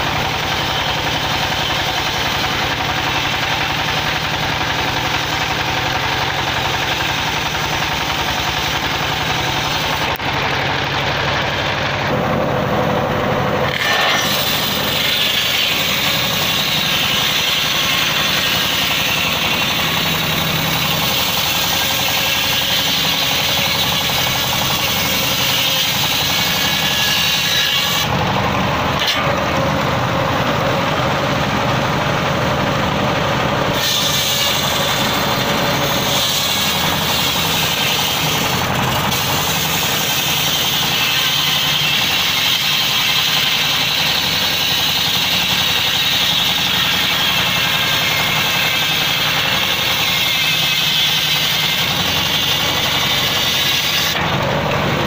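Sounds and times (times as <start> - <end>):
circular saw ripping through log: 0.0 - 11.0, 11.6 - 29.7, 33.6 - 54.4
stationary engine running: 0.0 - 55.0.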